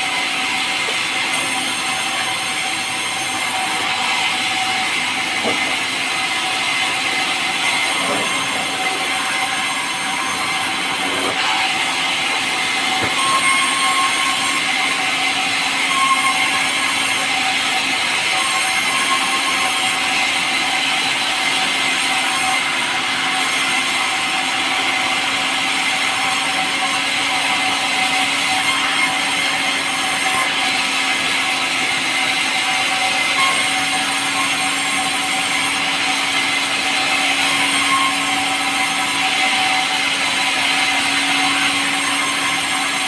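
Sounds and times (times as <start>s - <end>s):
power saw cutting wood: 0.0s - 43.0s.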